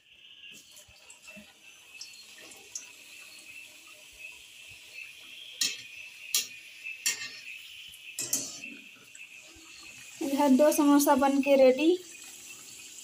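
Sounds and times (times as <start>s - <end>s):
deep-frying sizzle in oil: 0.0s - 13.0s.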